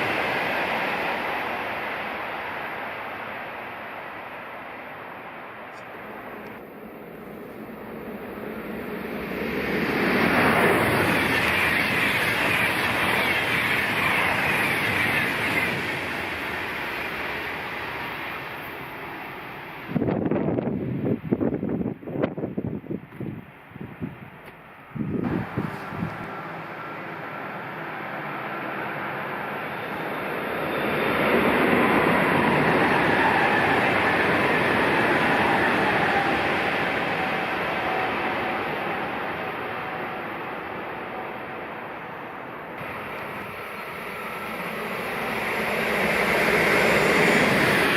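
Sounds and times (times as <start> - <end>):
passenger train passing at high speed: 0.0 - 47.9.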